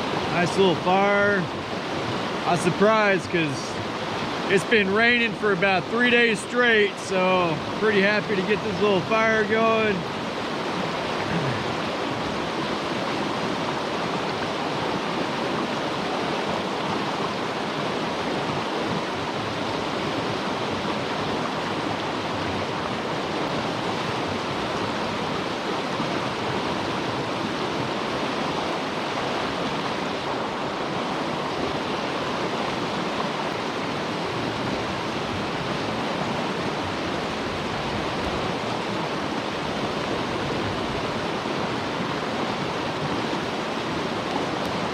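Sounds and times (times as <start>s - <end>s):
surf rushing: 0.0s - 44.9s.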